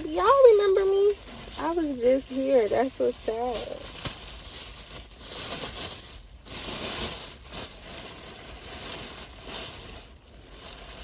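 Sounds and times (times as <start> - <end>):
rustling and crinkling handling: 0.0 - 11.0.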